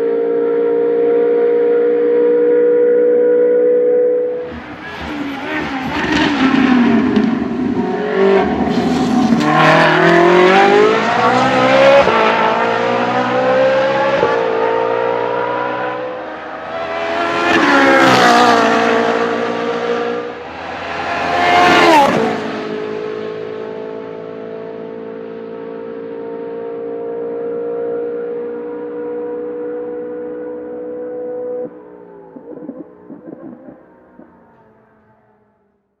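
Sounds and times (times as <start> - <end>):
race car engine at high revs: 0.0 - 34.6.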